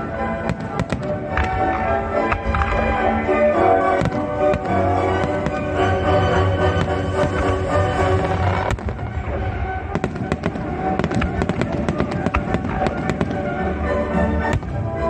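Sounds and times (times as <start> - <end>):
fireworks bangs and crackles: 0.0 - 15.0
music: 0.0 - 15.0.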